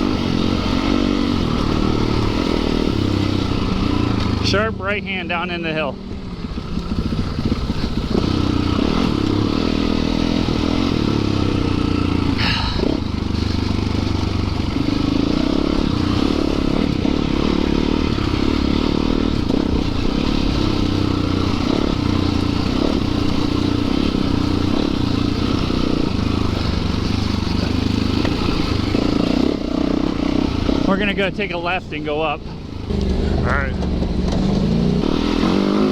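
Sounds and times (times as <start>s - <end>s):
dirt bike engine at low revs: 0.0s - 35.9s.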